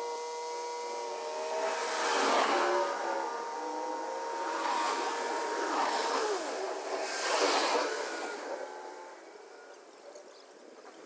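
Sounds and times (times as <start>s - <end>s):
distant diesel tractor engine: 0.0s - 10.1s.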